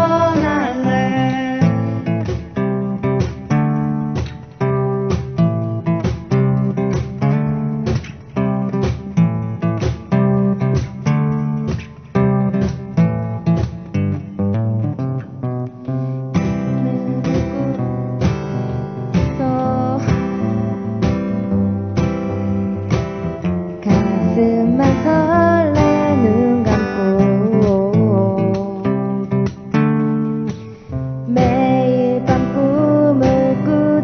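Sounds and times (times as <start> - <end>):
acoustic guitar strumming chords: 0.0 - 34.0
sliding guitar melody: 0.0 - 34.0.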